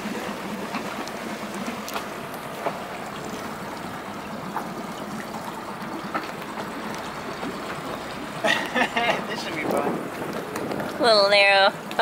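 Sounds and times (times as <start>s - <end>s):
water lapping against a hull: 0.0s - 12.0s.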